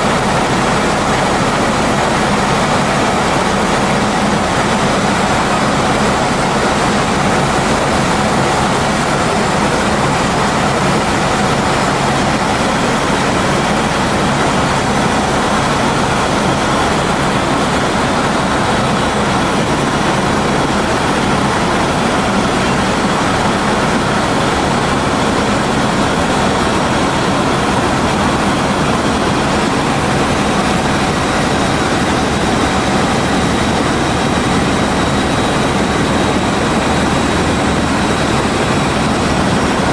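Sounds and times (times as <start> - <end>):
faint steady whine: 0.0 - 39.9
helicopter engine and rotor drone: 0.0 - 39.9.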